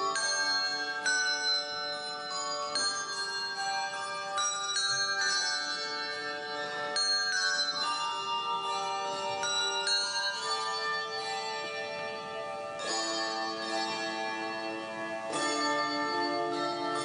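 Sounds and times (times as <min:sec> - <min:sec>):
handbell chords ringing: 0:00.0 - 0:17.0.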